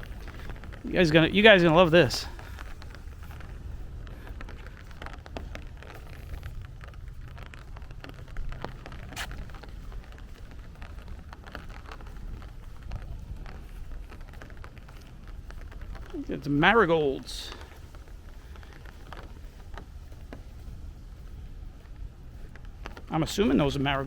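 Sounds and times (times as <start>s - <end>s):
raindrops ticking: 0.0s - 24.0s
steady low rumble: 0.0s - 24.0s.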